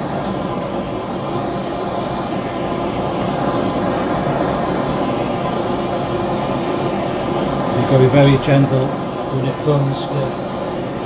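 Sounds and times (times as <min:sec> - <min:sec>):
gas torch burning: 0:00.0 - 0:11.0.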